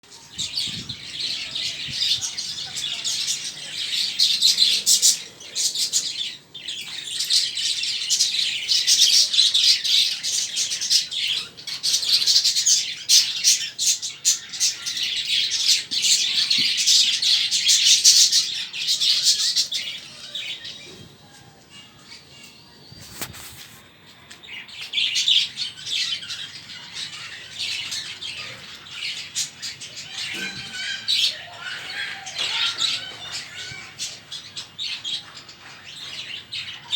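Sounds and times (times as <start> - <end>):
caged birds chirping and chattering: 0.0 - 36.9.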